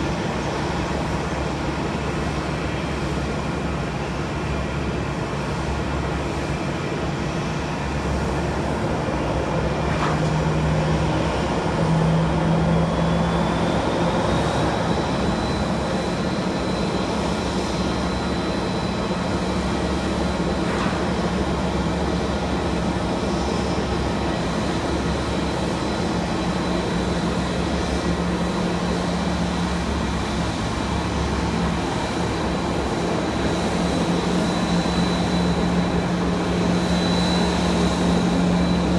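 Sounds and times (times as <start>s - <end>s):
high turbine whine: 0.0s - 38.9s
jet engines rumbling: 0.0s - 38.9s.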